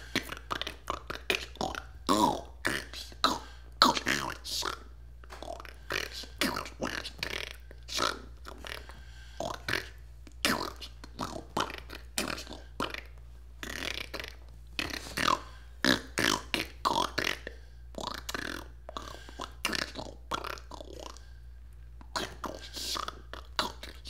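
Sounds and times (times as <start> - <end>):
person beatboxing: 0.0 - 21.3, 22.0 - 24.0.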